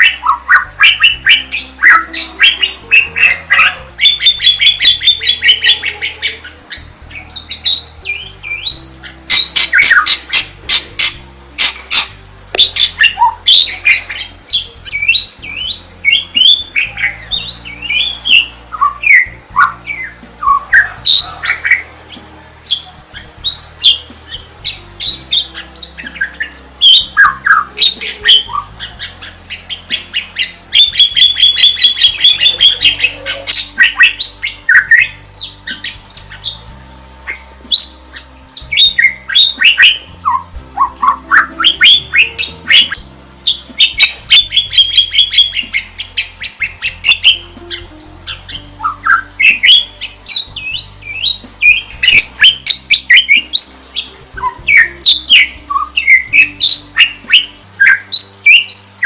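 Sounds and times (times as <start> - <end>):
bird chattering trills: 0.0 - 59.0
bird harsh squawks: 0.0 - 59.0
bird whistled song: 0.0 - 59.0.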